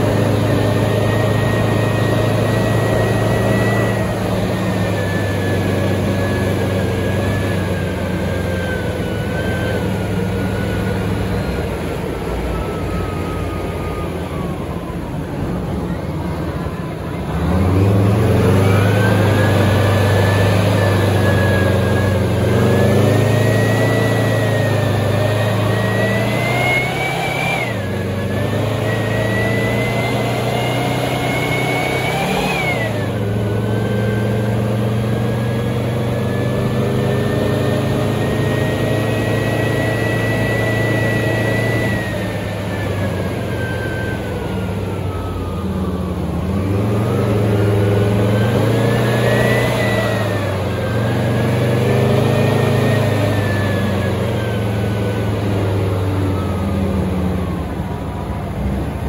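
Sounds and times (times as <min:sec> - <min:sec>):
high whine: 0:00.0 - 0:58.6
tank diesel engine: 0:00.0 - 0:59.0.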